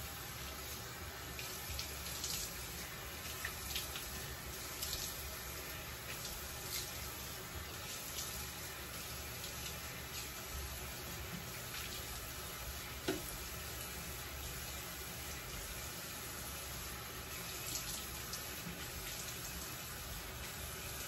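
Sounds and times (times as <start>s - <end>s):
water running from tap: 0.0s - 21.0s.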